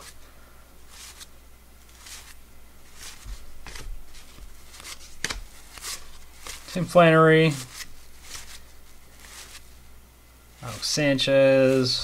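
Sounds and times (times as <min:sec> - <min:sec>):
cards sliding papery swishes: 0:00.0 - 0:00.2, 0:00.8 - 0:09.9, 0:10.6 - 0:12.0.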